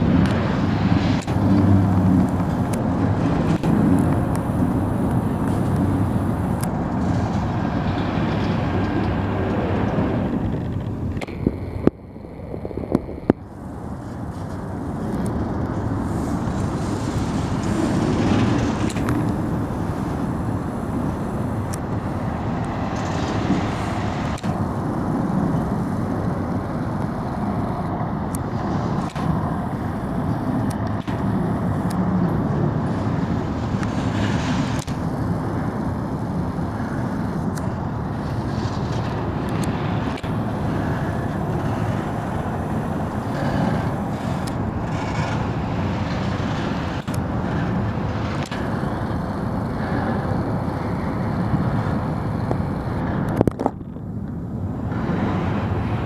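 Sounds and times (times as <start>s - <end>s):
freight train wheels rumbling: 0.0s - 56.0s
sharp clicks of wheels: 1.1s - 56.0s.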